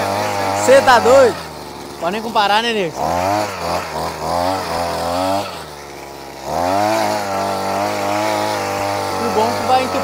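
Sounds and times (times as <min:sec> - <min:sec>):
small engine revving under load: 0:00.0 - 0:10.0.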